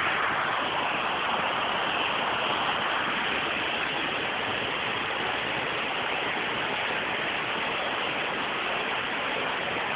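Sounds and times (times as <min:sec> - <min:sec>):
floodwater running over street: 0:00.0 - 0:09.9
heavy rain falling: 0:00.0 - 0:09.9.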